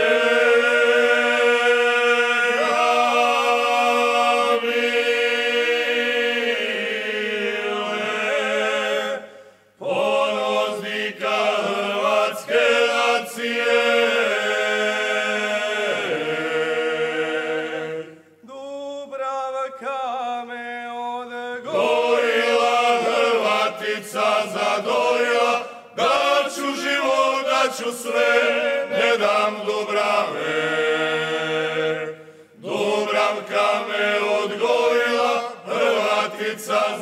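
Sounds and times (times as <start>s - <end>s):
men singing in close harmony: 0.0s - 37.0s.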